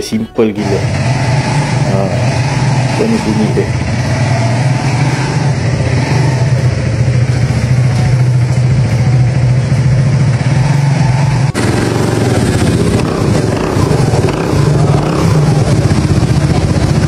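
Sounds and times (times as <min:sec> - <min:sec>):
scooter engine idling roughly: 0:00.6 - 0:17.0
scooter engine running: 0:00.6 - 0:17.0.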